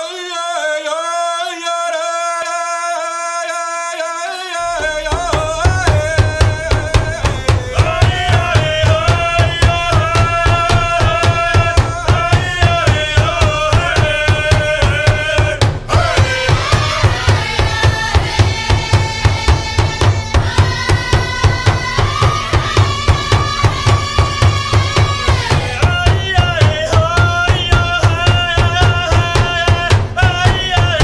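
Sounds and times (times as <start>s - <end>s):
man singing: 0.0s - 31.0s
big drum steady beat: 4.6s - 31.0s.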